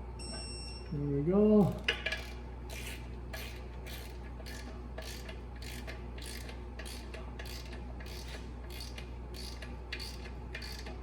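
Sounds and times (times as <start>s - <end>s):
low steady hum: 0.0s - 11.0s
hand ratchet clicking: 1.7s - 11.0s.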